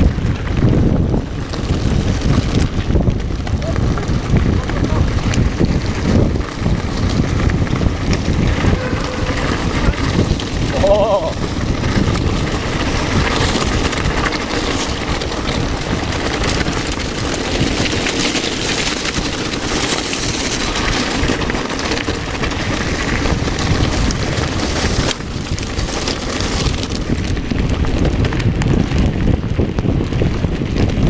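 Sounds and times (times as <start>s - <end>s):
bike rattling: 0.0s - 31.0s
tyres on loose gravel: 0.0s - 31.0s
wind buffeting microphone: 0.0s - 31.0s.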